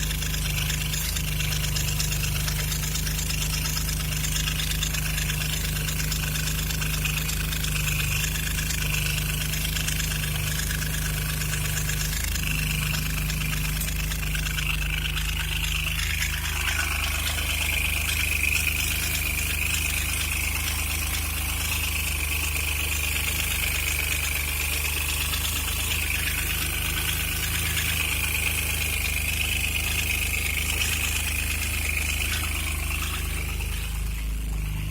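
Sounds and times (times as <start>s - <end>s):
car engine idling: 0.0s - 34.9s
high-pitched whine: 0.0s - 34.9s.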